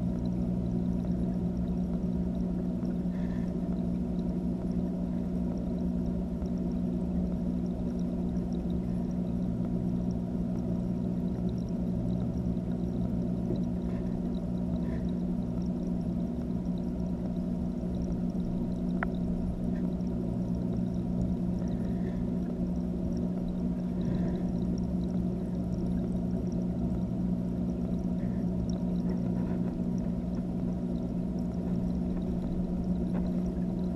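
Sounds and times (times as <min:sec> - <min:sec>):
aquarium filter humming: 0:00.0 - 0:33.9
running water: 0:00.0 - 0:33.9.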